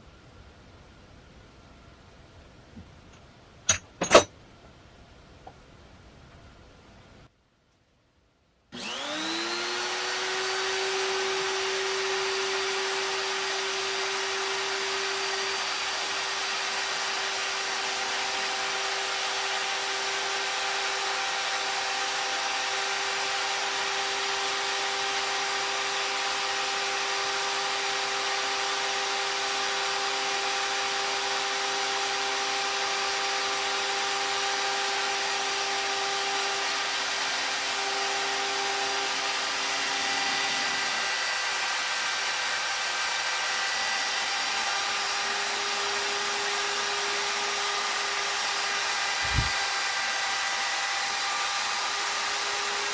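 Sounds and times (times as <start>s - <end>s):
die grinder high whine: 8.8s - 52.9s.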